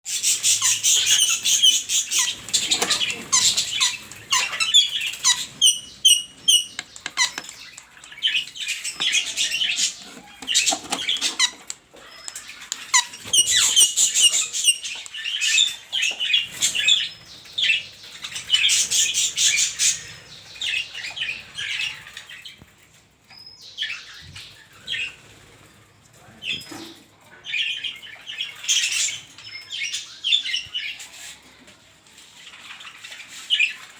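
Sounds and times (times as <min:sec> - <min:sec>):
cage birds chirping and squawking: 0:00.1 - 0:33.9.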